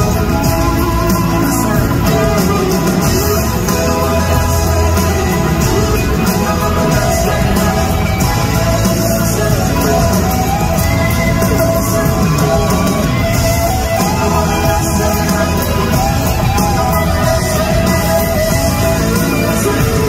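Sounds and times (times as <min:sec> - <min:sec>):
crowd voices: 0:00.0 - 0:20.0
live rock band playing: 0:00.0 - 0:20.0.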